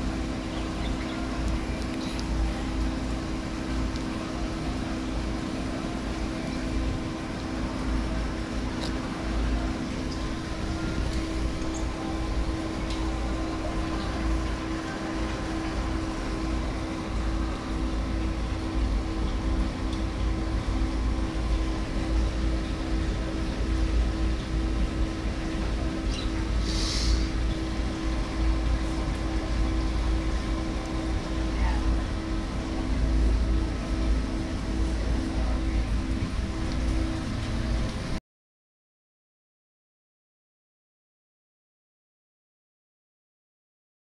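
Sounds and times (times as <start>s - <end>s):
constant tone: 0.0s - 38.2s
machine hum: 0.0s - 38.2s.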